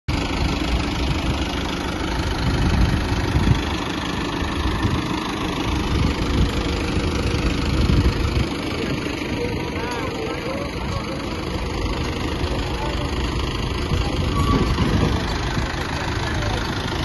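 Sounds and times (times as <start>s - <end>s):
tractor diesel engine running: 0.1s - 17.0s.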